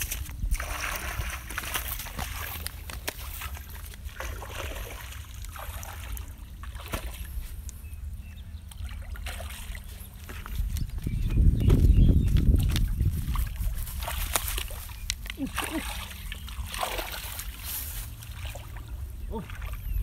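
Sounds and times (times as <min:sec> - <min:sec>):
water sloshing and splashing: 0:00.0 - 0:11.2, 0:11.8 - 0:20.0.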